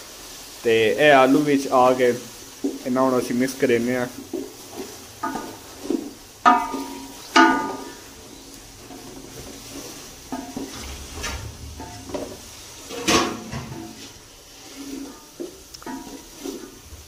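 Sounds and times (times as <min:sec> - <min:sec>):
faint sizzle: 0:00.0 - 0:17.0.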